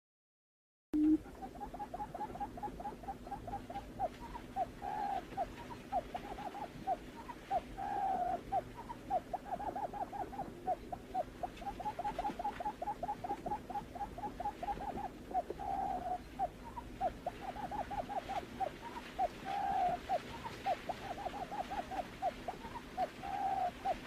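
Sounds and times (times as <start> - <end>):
buttonquail cooing calls: 1.0 - 24.0.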